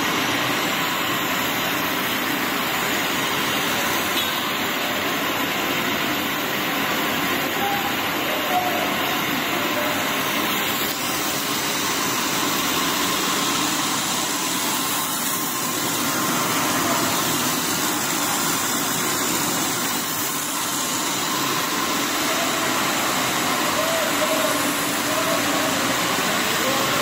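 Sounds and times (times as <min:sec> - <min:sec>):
food extruder machine running: 0:00.0 - 0:27.0.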